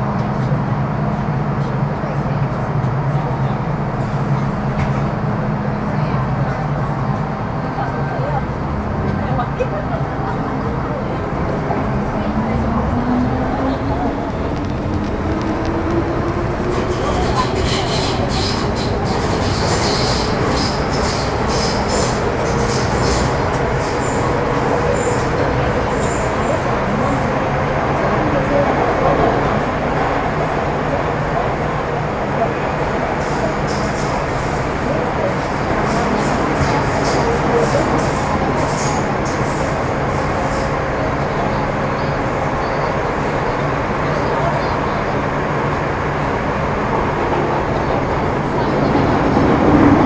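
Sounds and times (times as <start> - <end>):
train wheels and motors rumbling: 0.0 - 50.0.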